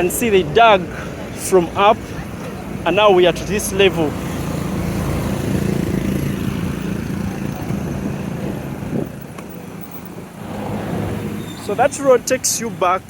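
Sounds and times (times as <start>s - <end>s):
traffic noise: 0.0s - 13.0s
vehicle engine passing by: 0.8s - 12.4s.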